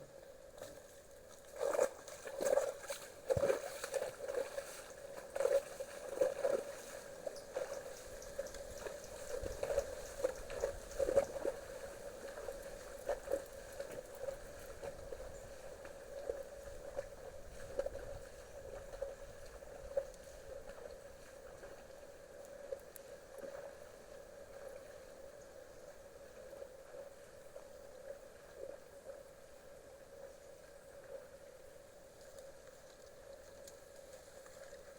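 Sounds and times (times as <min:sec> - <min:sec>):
creek water trickling and gurgling: 0:00.0 - 0:34.9.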